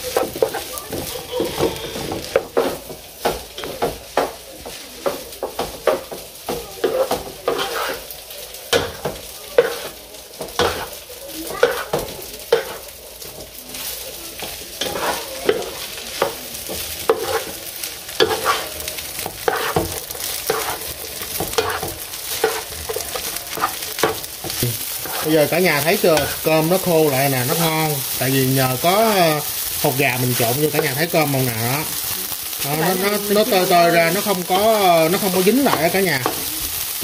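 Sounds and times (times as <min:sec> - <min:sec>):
rice sizzling in a pan: 0:00.0 - 0:37.0
spatula scraping a pan: 0:00.0 - 0:37.0.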